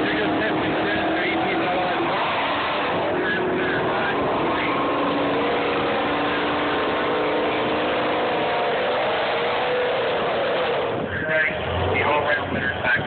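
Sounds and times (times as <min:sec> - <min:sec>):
race engines idling: 0:00.0 - 0:13.0.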